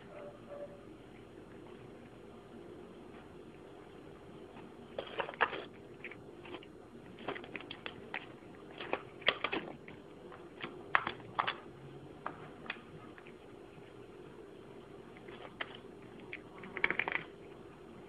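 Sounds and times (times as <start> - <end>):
cat crunching food: 3.5 - 18.0.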